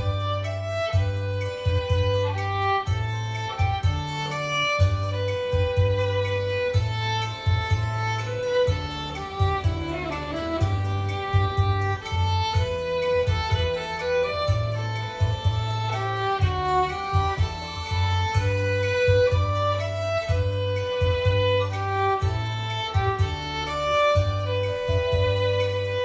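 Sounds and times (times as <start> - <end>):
bass line and steady beat: 0.0 - 26.0
violin melody: 0.0 - 26.0.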